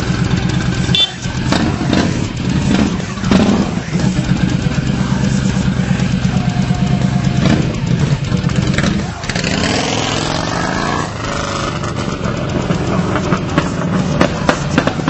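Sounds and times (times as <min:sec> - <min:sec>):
motorcycle accelerating: 0:00.0 - 0:15.0.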